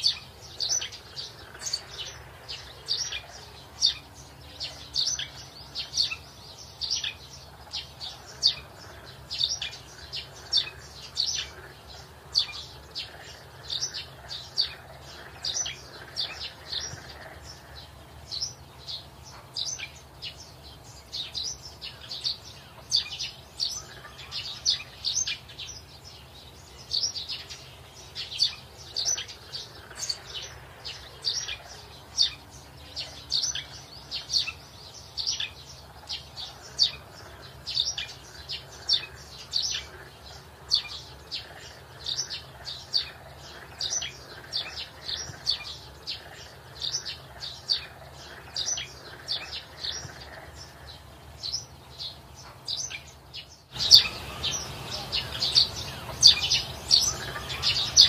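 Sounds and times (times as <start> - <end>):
young chickens peeping: 0.0 - 58.0.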